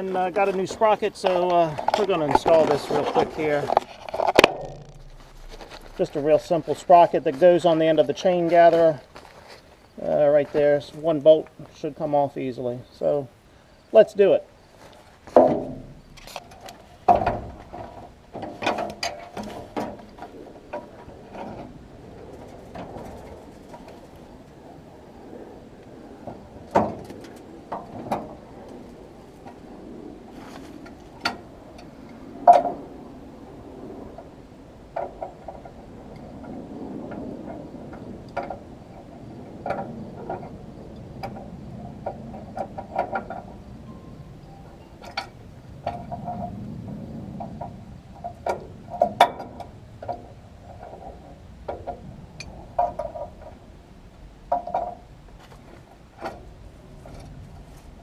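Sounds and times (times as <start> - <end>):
low background noise: 0.0 - 58.0.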